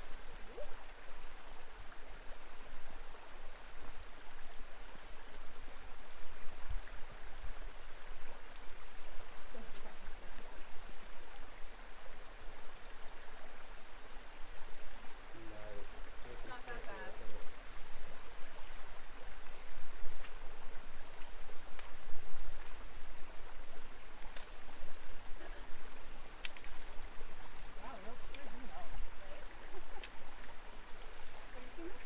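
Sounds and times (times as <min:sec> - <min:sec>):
creek babbling over stones: 0:00.0 - 0:32.0.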